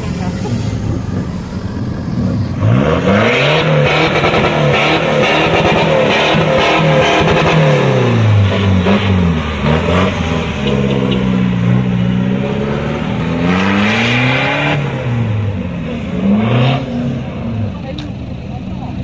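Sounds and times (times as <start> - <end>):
diesel truck engine revving: 0.0 - 19.0
exhaust rush: 0.0 - 19.0.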